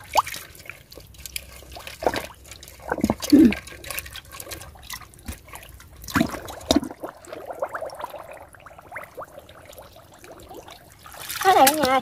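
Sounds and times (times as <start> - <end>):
muddy water sloshing: 0.0 - 12.0
water splashes: 0.0 - 12.0.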